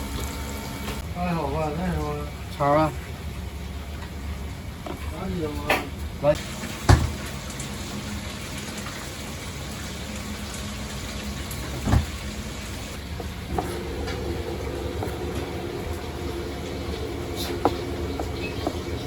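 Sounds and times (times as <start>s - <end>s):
steady kitchen hum: 0.0s - 19.0s
steady pitched hum: 0.0s - 19.0s.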